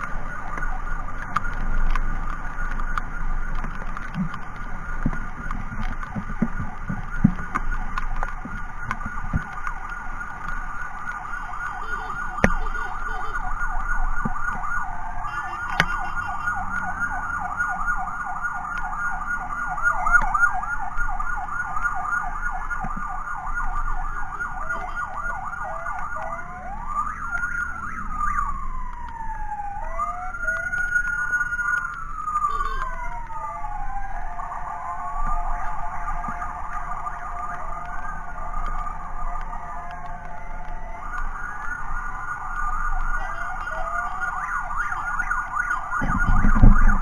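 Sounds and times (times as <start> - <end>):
electronic siren yelping and wailing: 0.0 - 47.0.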